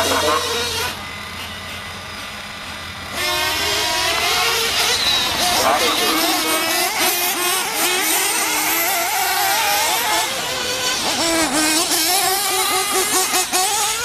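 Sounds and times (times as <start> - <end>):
rc truck engines whining: 0.0 - 14.0.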